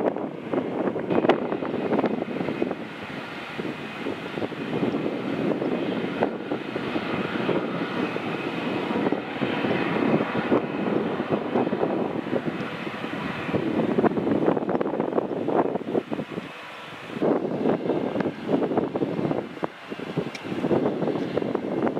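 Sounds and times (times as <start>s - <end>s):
jet engines running: 0.0s - 21.9s.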